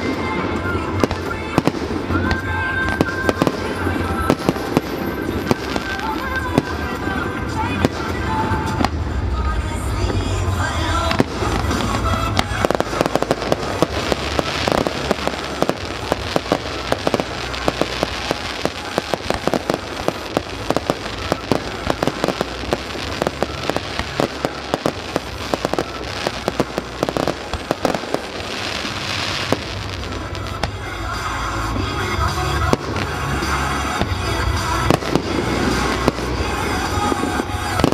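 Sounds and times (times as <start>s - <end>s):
background music: 0.0s - 37.9s
fireworks crackling and banging: 0.0s - 37.9s.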